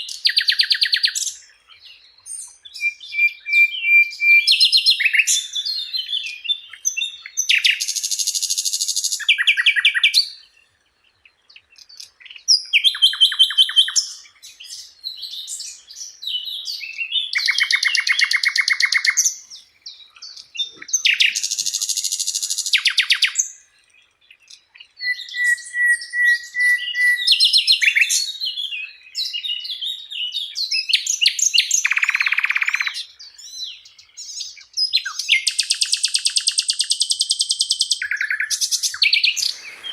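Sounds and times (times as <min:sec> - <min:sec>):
bird singing buzzy trills: 0:00.0 - 0:39.9.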